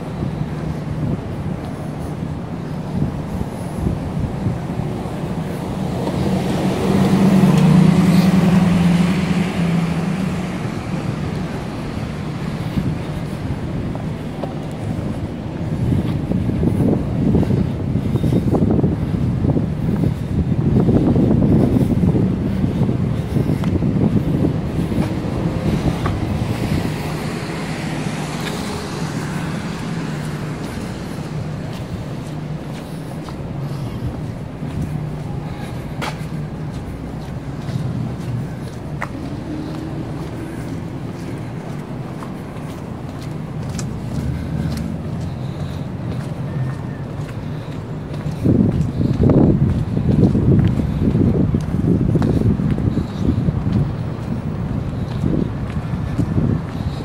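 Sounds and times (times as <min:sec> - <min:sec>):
cars driving along street: 0:00.0 - 0:57.0
traffic noise: 0:00.0 - 0:57.0
vehicle engine hum: 0:00.0 - 0:57.0.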